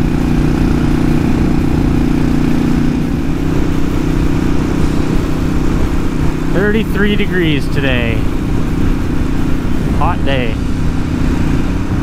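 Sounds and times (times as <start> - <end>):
motorcycle engine cruising: 0.0 - 12.0
wind and road rush: 0.0 - 12.0.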